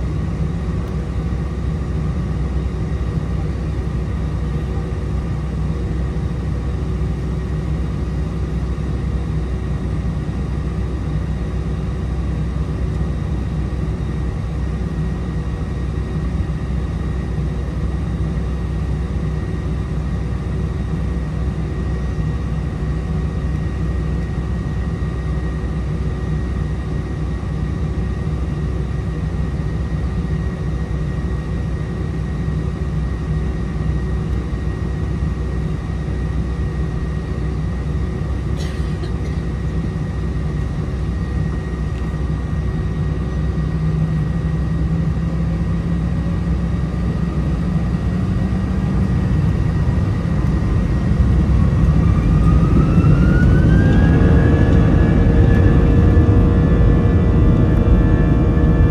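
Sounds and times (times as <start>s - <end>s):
jet engine whine spooling up: 0.0s - 58.9s
jet engines idling hum: 0.0s - 58.9s.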